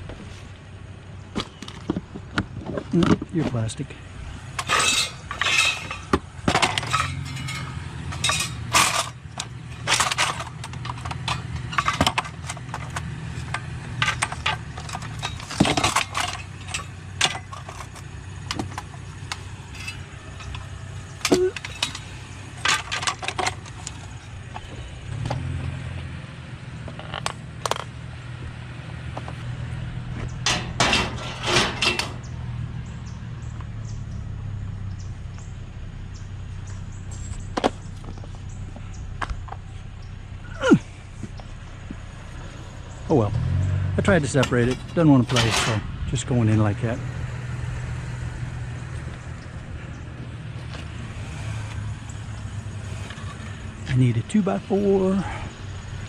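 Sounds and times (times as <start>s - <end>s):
low steady hum: 0.0s - 56.0s
scrap metal clanking and rattling: 1.3s - 26.0s, 26.8s - 28.0s, 29.1s - 32.7s, 40.5s - 56.0s.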